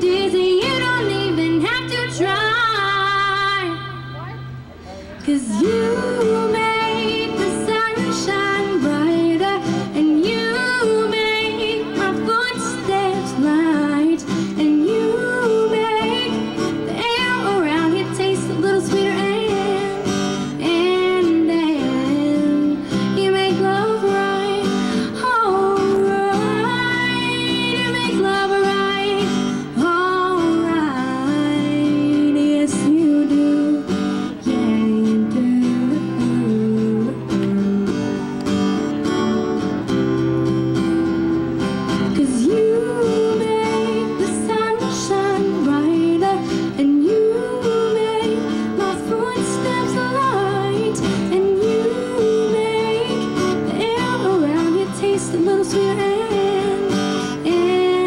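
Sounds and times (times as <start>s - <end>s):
woman singing: 0.0s - 4.3s, 5.2s - 38.8s, 41.9s - 58.0s
acoustic guitar strumming: 0.0s - 58.0s.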